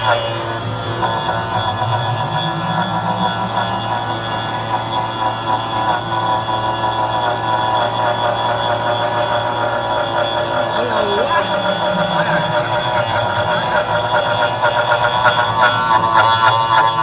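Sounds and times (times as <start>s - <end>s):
drilling machine humming and whining: 0.0s - 17.0s.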